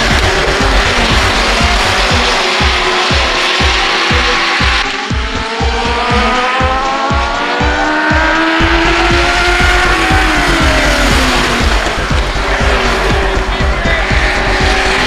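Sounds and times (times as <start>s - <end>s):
music with steady beat: 0.0s - 15.0s
race car engines passing: 0.0s - 15.0s.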